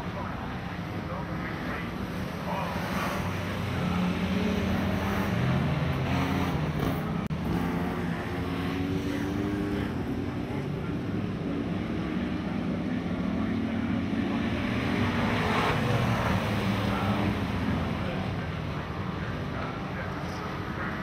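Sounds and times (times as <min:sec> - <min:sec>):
stock car engines racing: 0:00.0 - 0:21.0.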